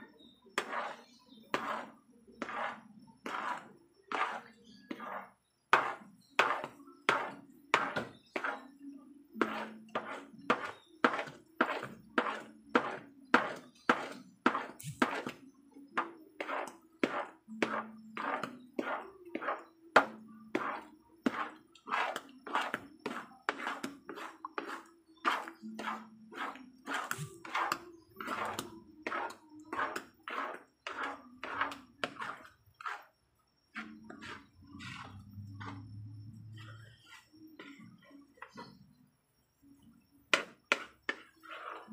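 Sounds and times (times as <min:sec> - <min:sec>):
spoon scraping a cooking pan: 0:00.0 - 0:39.0, 0:39.8 - 0:41.9.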